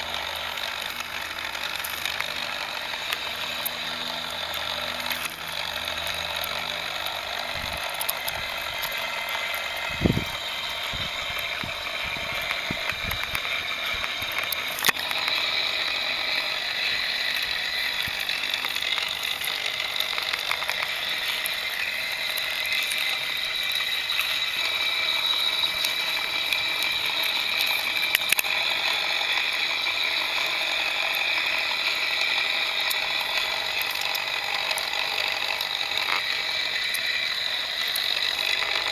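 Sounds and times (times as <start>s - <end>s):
plastic gears clicking: 0.0s - 38.9s
toy electric motor whirring: 0.0s - 38.9s.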